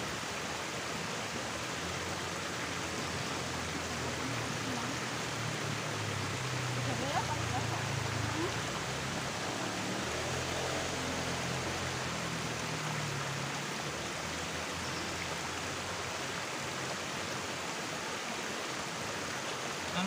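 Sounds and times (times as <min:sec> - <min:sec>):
river water babbling: 0:00.0 - 0:20.0.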